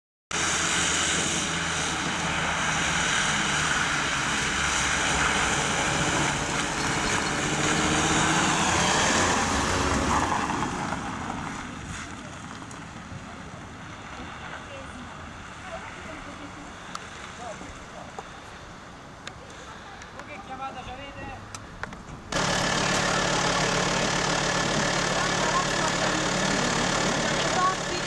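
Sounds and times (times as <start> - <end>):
tyres on wet gravel and mud: 0.3 - 28.0
vehicle engines running: 0.3 - 28.0.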